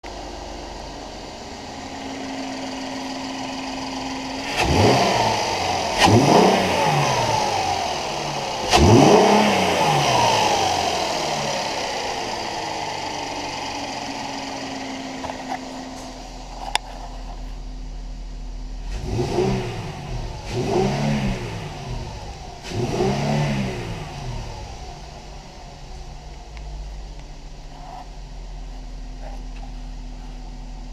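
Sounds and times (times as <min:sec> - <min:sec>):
car engine revving and idling: 0:00.0 - 0:30.9.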